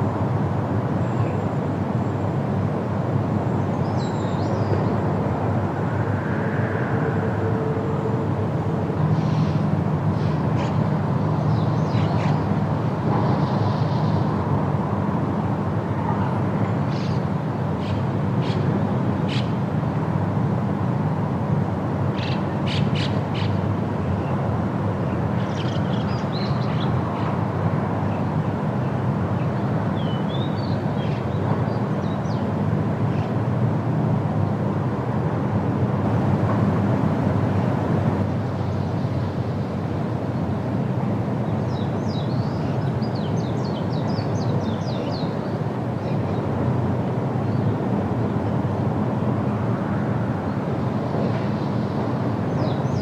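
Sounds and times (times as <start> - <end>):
wind in a forest: 0.0 - 53.0.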